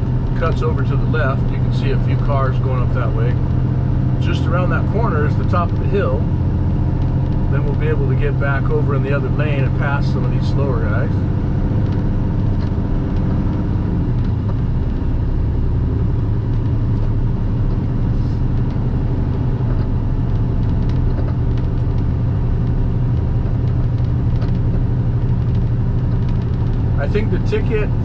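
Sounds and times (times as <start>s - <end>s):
road noise: 0.0s - 28.0s
truck diesel engine drone: 0.0s - 28.0s.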